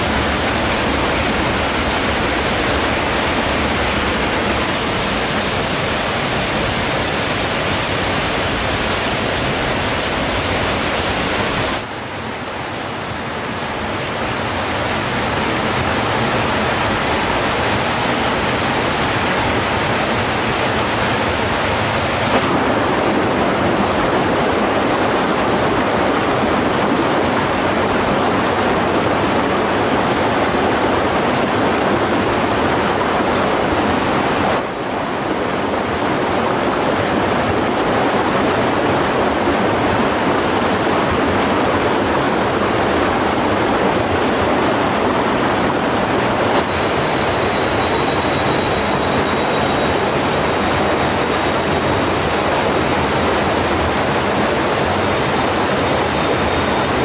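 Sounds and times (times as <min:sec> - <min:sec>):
stream water rushing over rocks: 0:00.0 - 0:57.0.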